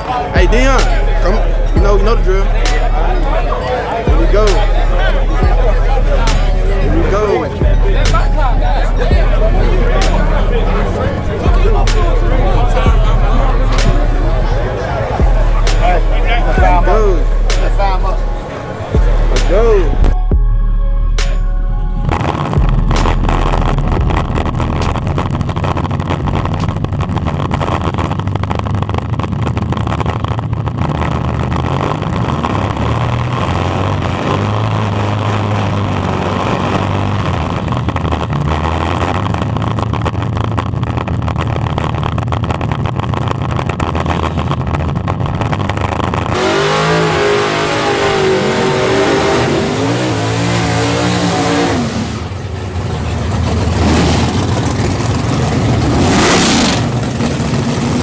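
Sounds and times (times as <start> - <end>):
race car engines at full throttle: 0.0 - 58.0.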